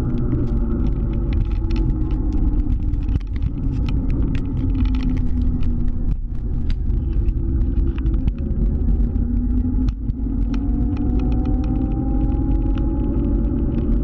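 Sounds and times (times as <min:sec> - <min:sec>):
small clicks and rattles: 0:00.0 - 0:14.0
wind rumble on microphone: 0:00.0 - 0:14.0.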